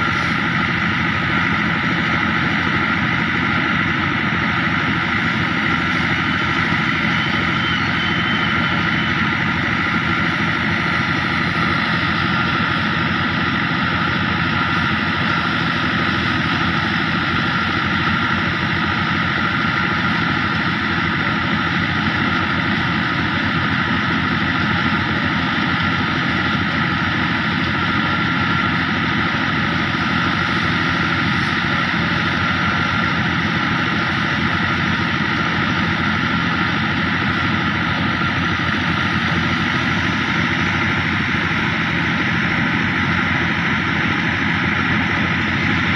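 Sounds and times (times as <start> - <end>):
tractor engine driving thresher: 0.0 - 45.9.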